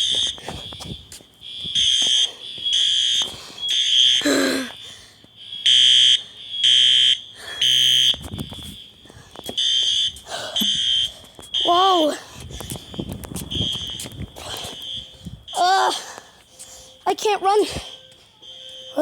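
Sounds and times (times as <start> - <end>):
faint alarm horn: 0.0 - 19.0
fire alarm horn blasts: 0.0 - 19.0.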